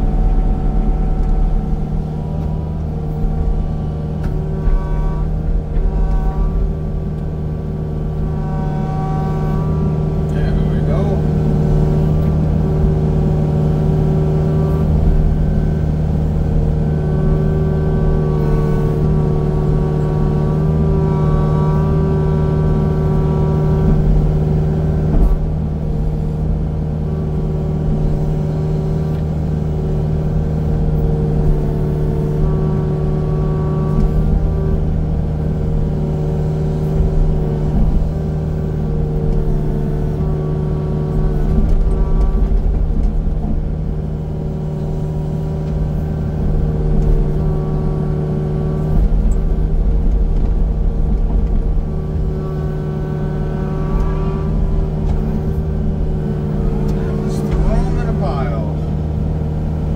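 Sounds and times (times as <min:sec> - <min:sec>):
heavy machine engine under load: 0:00.0 - 0:59.9.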